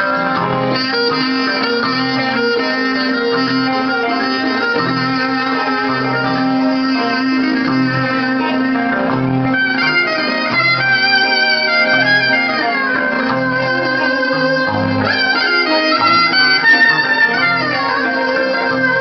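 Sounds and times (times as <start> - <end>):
plucked strings: 0.0 - 19.0
steady bass beat: 0.0 - 19.0
violin melody: 0.0 - 19.0.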